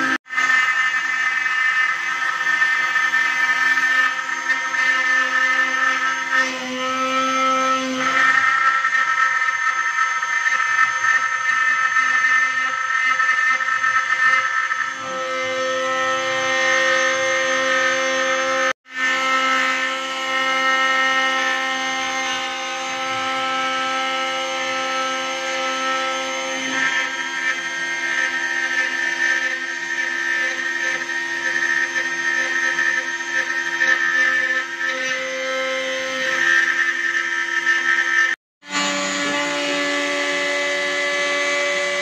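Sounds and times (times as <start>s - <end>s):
bit cutting wood: 0.0s - 42.0s
router spindle high whine: 0.0s - 42.0s.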